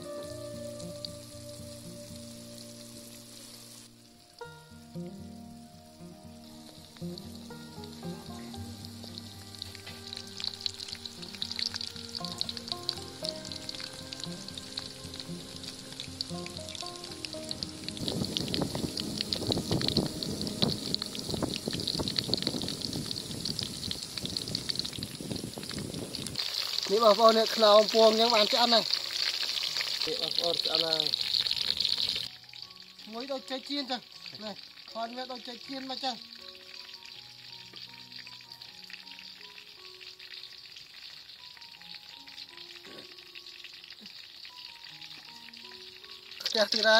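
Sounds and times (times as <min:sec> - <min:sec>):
soft melody of held notes: 0:00.0 - 0:24.3, 0:27.4 - 0:46.9
food deep-frying in oil: 0:00.0 - 0:46.9.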